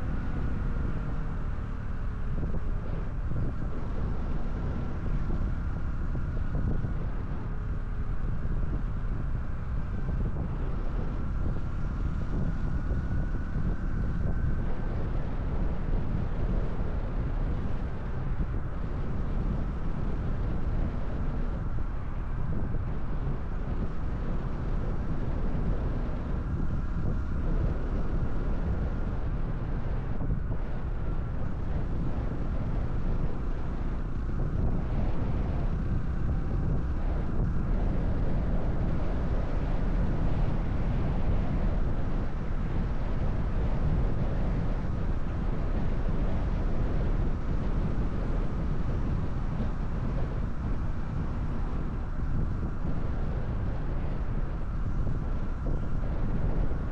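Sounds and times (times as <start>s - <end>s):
motorcycle engine running: 0.0s - 56.9s
wind rushing over microphone: 0.0s - 56.9s.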